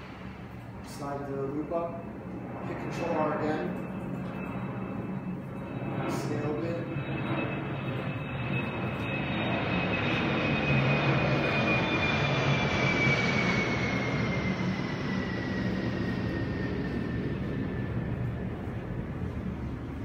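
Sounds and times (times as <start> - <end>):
high engine whine: 0.0 - 20.0
jet airliner rushing overhead: 0.0 - 20.0.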